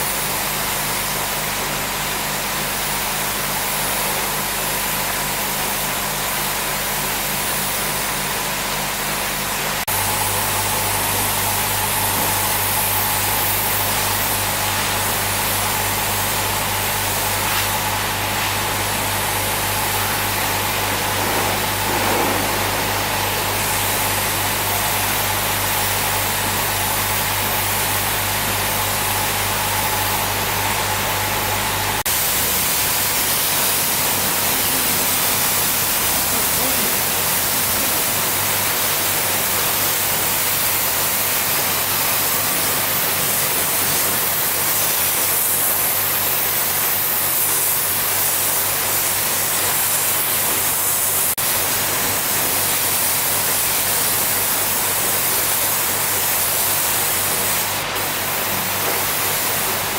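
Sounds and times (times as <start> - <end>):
machine hissing and humming: 0.0 - 59.9.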